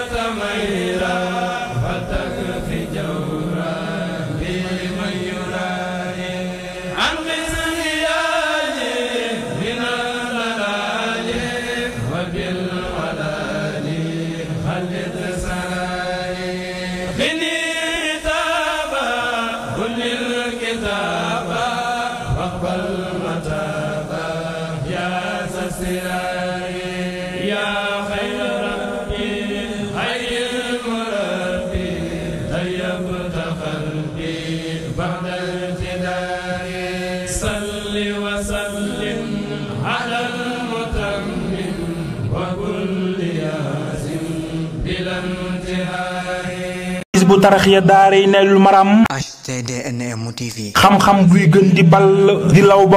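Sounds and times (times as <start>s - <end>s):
men chanting together: 0.0s - 47.8s.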